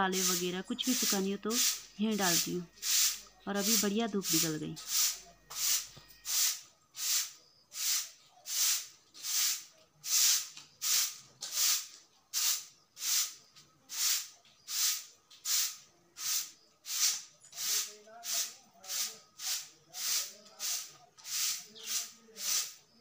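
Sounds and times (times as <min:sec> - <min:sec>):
broom sweeping concrete floor: 0:00.0 - 0:23.0.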